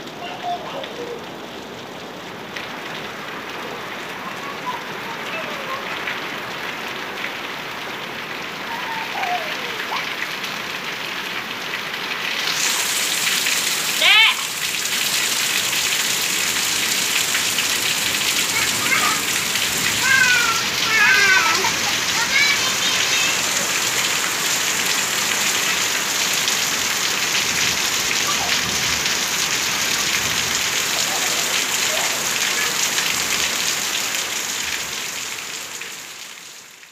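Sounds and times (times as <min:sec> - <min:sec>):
heavy rain on pavement: 0:00.0 - 0:36.9.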